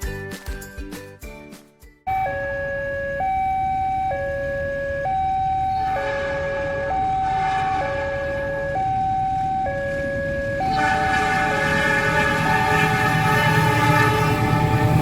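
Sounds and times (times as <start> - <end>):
two-tone level crossing alarm: 2.1 - 15.0.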